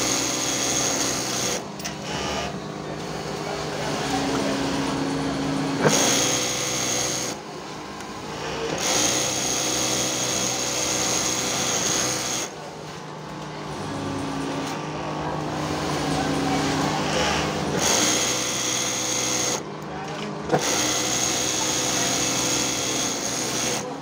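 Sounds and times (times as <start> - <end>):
sewing machine whining: 0.0 - 12.6, 15.4 - 24.0.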